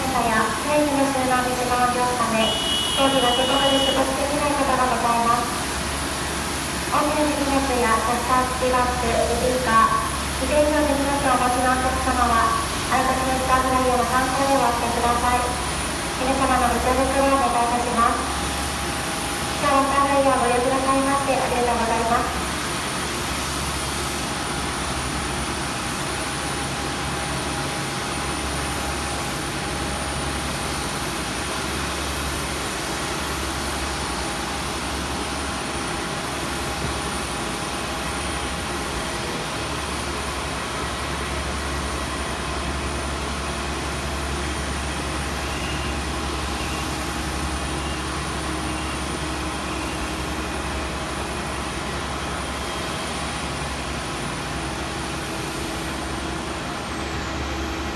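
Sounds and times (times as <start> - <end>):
even cabin hiss: 0.0 - 52.6.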